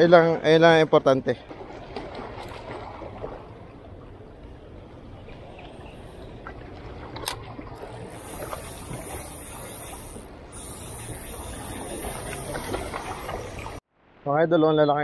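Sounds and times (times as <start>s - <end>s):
waves lapping against rocks: 1.4s - 13.8s.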